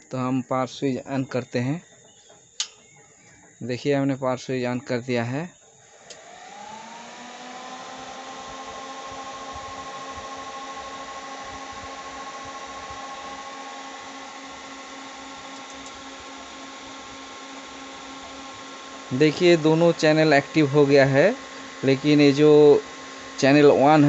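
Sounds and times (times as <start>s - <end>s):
cooling fan whirring: 0.0s - 24.0s.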